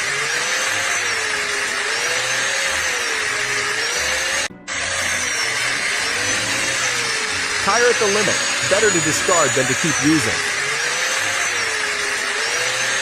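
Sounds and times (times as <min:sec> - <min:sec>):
machine whine: 0:00.0 - 0:13.0.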